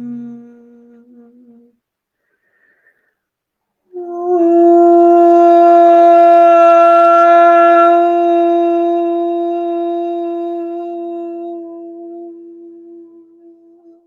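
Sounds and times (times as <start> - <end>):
long held breathy note: 0.0 - 3.2, 3.9 - 14.0.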